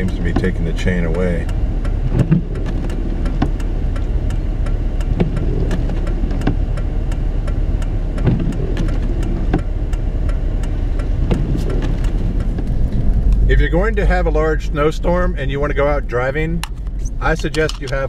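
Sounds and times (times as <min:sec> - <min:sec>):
sharp clicks and knocks: 0:00.0 - 0:14.0, 0:16.5 - 0:18.0
vehicle engine rumble: 0:00.0 - 0:18.0.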